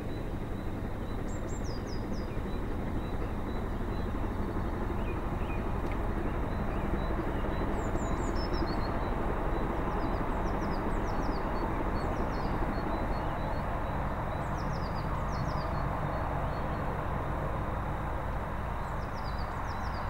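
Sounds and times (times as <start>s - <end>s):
small birds chirping: 0.0s - 16.9s
distant steam train rumble: 0.0s - 20.0s.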